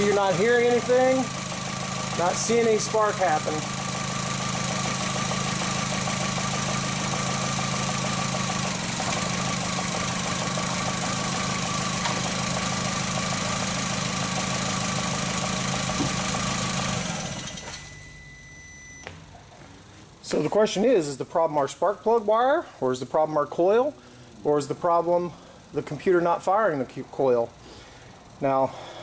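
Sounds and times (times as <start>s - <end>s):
car engine idling with misfire: 0.0s - 18.6s, 19.2s - 29.0s.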